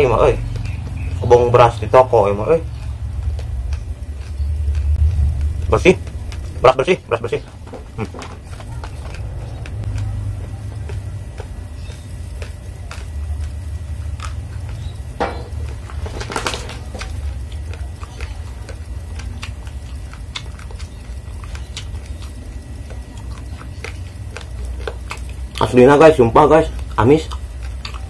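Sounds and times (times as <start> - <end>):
rice grains crunching when chewed: 0.0 - 28.0.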